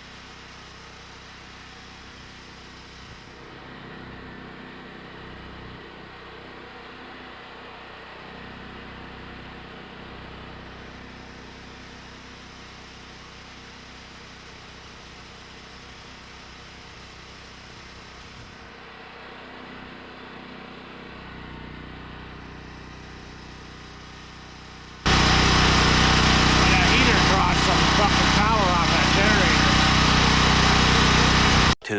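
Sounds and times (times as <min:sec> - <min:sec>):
portable generator running: 0:00.0 - 0:07.4, 0:08.1 - 0:31.9.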